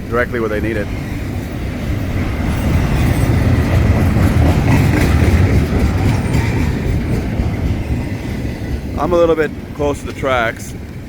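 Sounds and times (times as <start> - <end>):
freight train rumble: 0.0 - 11.0
train wheels clattering on rails: 0.0 - 11.0.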